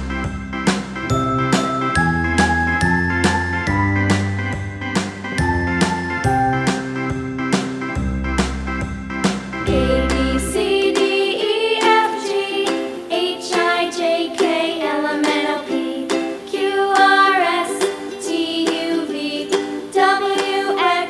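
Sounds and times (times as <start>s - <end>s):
plucked string music with melody: 0.0s - 21.0s.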